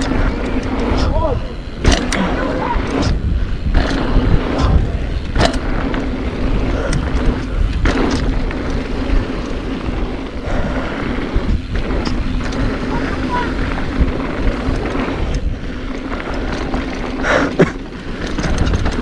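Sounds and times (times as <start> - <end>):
bike clacking over bumps: 0.0 - 19.0
tyres rumbling on dirt: 0.0 - 19.0
wind rushing over microphone: 0.0 - 19.0.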